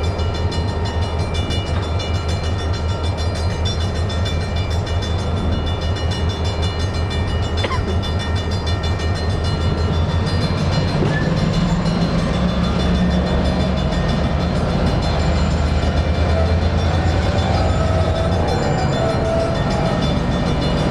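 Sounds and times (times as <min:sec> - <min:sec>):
diesel locomotive engine humming: 0:00.0 - 0:20.9.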